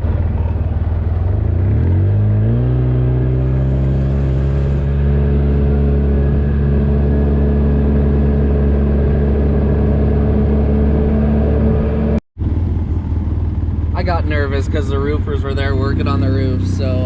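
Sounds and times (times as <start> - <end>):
vehicle engine speeding up: 0.0 - 17.0.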